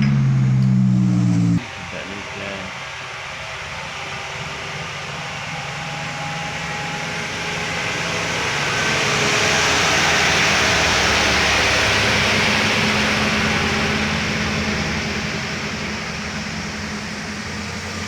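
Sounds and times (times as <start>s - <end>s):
heavy vehicle engine approaching: 0.0s - 18.0s.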